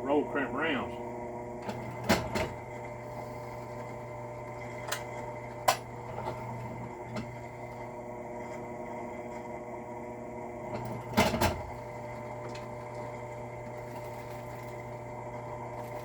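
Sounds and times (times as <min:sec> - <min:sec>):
drill press motor running: 0:00.0 - 0:16.0.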